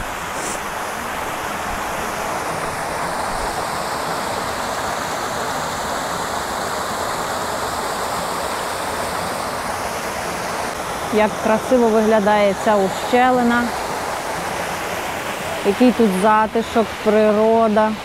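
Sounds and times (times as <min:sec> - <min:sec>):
small waterfall pouring: 0:00.0 - 0:18.0.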